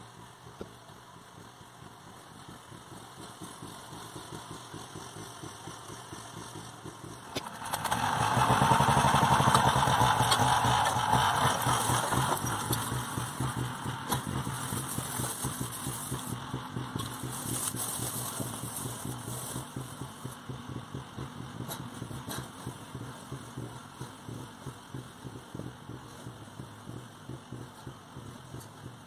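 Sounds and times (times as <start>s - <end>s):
walk-behind tractor engine running: 0.0s - 29.0s.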